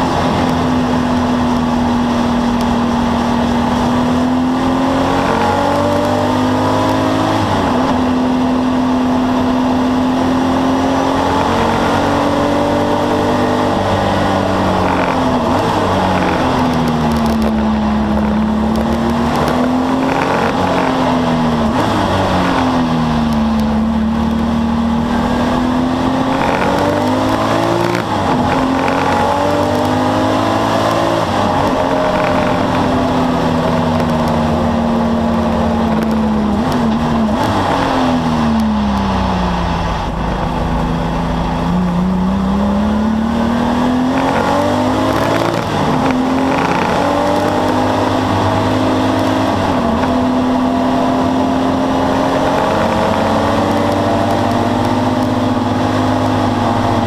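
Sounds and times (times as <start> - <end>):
engine gear shifts: 0.0 - 57.0
race car engine revving: 0.0 - 57.0.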